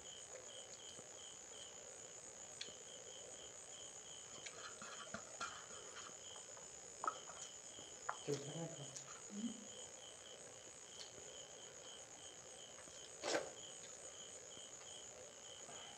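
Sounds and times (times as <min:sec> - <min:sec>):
crickets chirping: 0:00.0 - 0:15.9.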